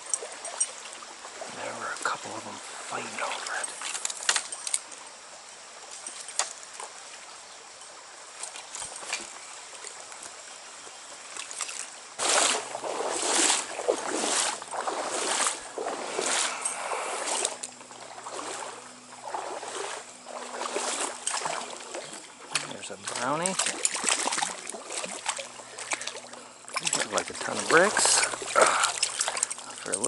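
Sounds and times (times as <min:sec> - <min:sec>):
legs wading through water: 0:00.0 - 0:30.0
stream water running: 0:00.0 - 0:30.0.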